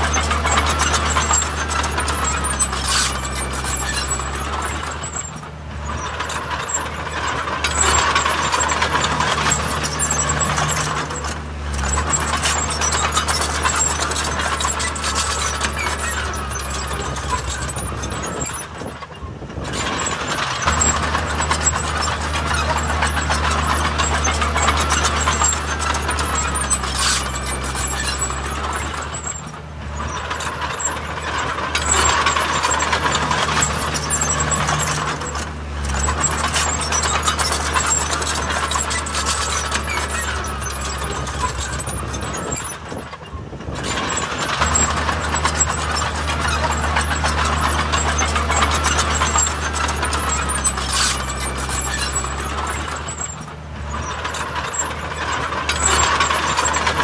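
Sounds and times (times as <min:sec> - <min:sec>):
continuous metallic clatter: 0:00.0 - 0:57.0
diesel machinery engine hum: 0:00.0 - 0:57.0.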